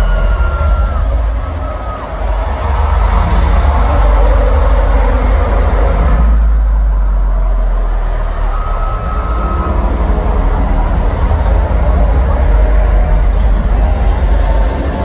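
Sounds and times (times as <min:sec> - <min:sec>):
deep bass rumble: 0:00.0 - 0:15.0
noisy arena haze: 0:00.0 - 0:15.0.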